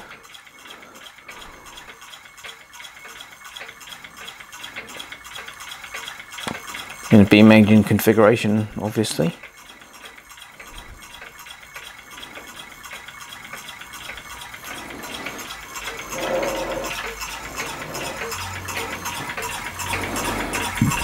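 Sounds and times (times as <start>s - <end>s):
engine metallic ticking: 0.0s - 21.0s.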